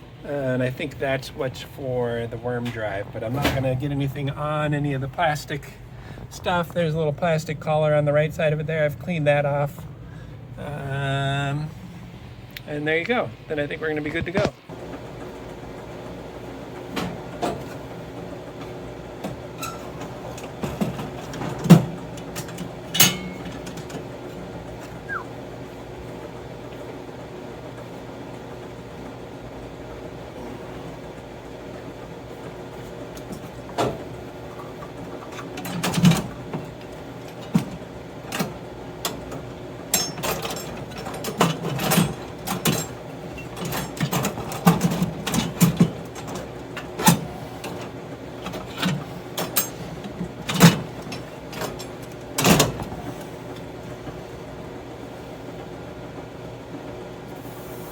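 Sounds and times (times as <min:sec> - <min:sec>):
steady machine hum: 0:00.0 - 0:57.9.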